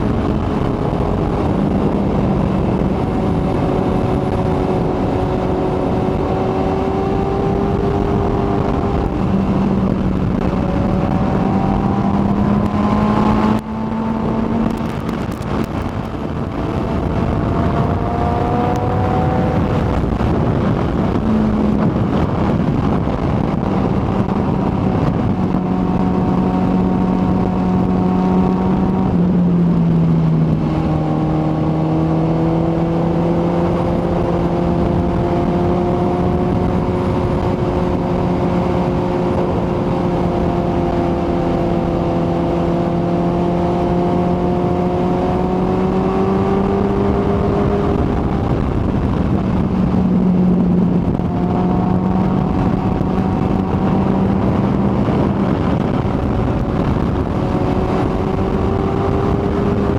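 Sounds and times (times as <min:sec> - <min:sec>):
motorcycle engine running at speed: 0:00.0 - 0:59.9.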